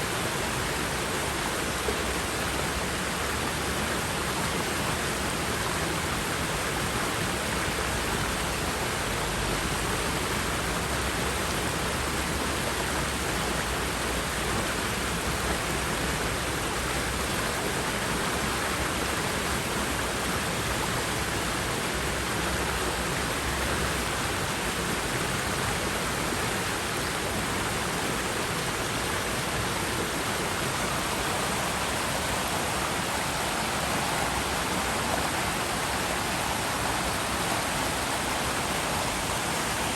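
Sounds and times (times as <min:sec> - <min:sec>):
river water rushing and splashing: 0:00.0 - 0:39.9.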